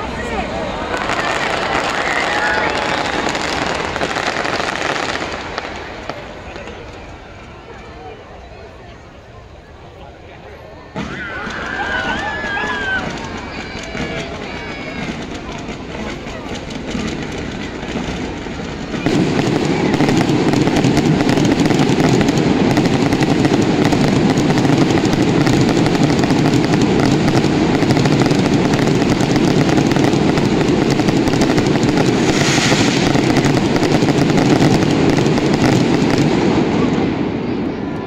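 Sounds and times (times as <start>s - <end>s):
fireworks crackling and popping: 0.0s - 8.2s, 11.0s - 38.0s.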